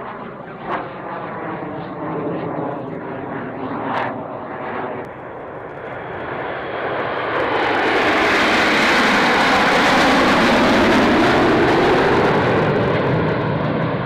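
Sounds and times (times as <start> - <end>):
aircraft engine roar: 0.0 - 14.0.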